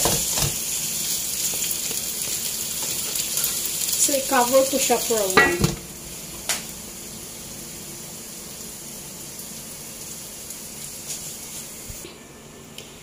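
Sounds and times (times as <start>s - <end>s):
food sizzling in a wok: 0.0s - 12.1s.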